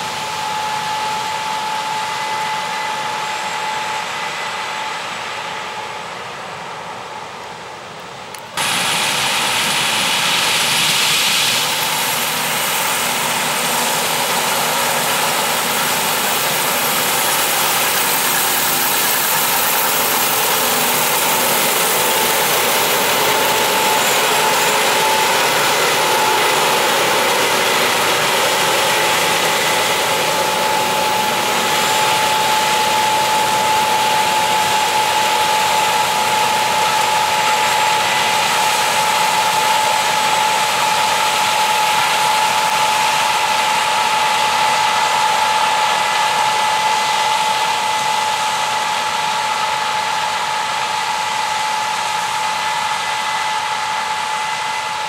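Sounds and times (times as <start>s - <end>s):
combine harvester running: 0.0s - 55.0s
steady high whine: 0.0s - 55.0s.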